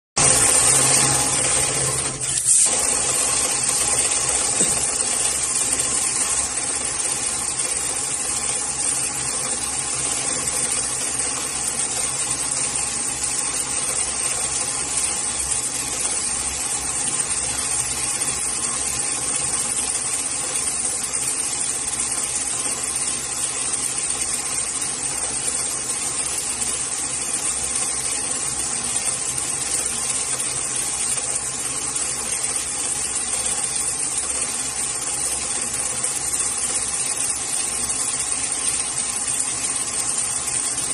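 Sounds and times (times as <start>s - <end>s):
industrial sewing machine running: 0.2s - 40.9s.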